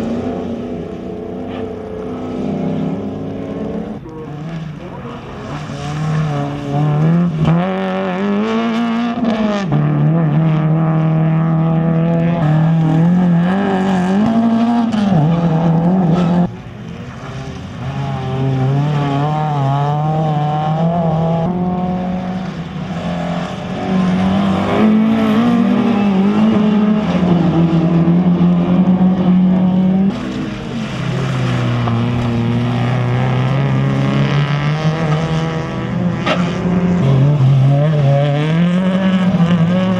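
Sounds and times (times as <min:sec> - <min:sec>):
rally car engines revving: 0:00.0 - 0:39.9.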